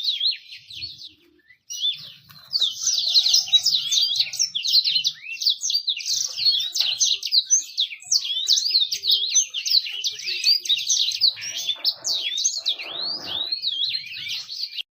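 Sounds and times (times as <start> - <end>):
canary singing: 0.0 - 14.9.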